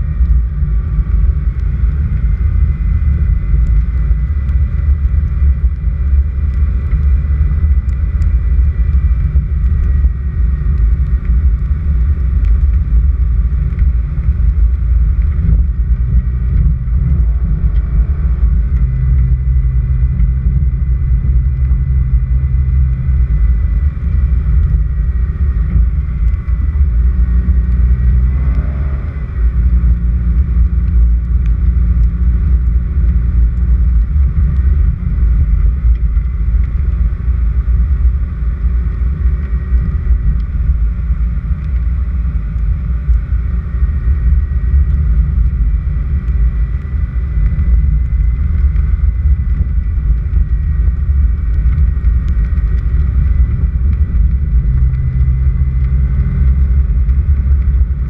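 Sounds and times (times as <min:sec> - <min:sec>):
car driving on dirt road: 0:00.0 - 0:58.0.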